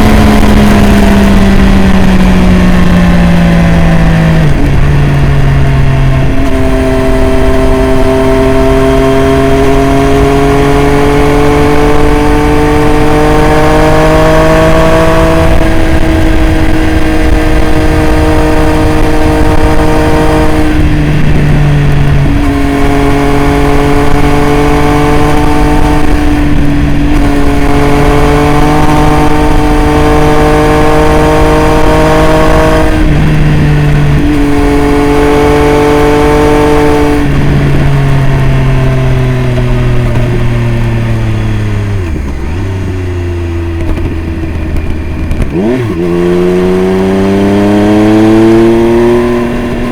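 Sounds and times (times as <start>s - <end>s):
motorcycle engine riding: 0.0s - 49.9s.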